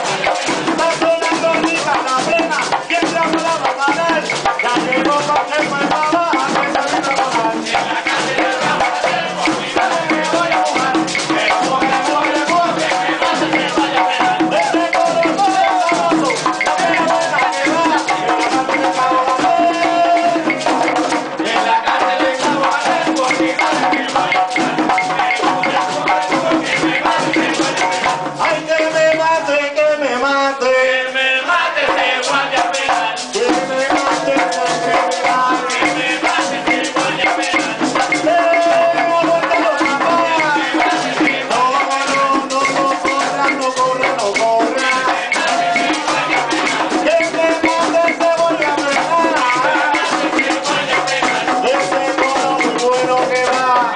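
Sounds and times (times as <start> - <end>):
jingle tambourine: 0.0 - 29.3, 31.6 - 53.9
frame drums beaten: 0.0 - 29.8, 31.2 - 53.9
group singing: 0.0 - 53.9.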